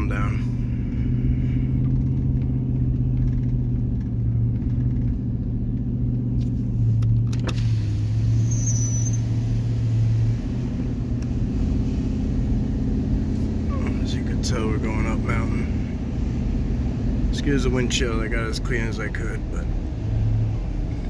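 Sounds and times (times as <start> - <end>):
car engine droning: 0.0 - 21.0
road rumble: 0.0 - 21.0.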